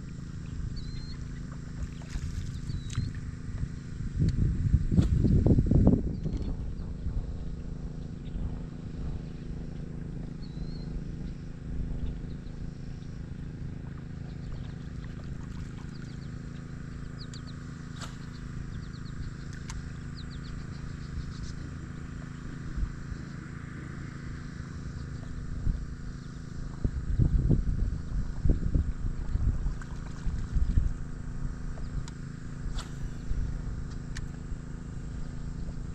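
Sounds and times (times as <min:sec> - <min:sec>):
boat motor humming: 0:00.0 - 0:35.9.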